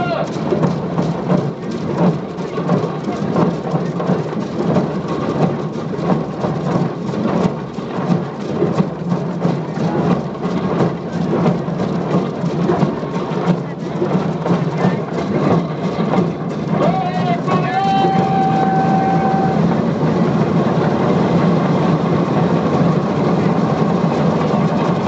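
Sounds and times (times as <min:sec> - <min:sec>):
massed hand drumming: 0:00.0 - 0:25.0.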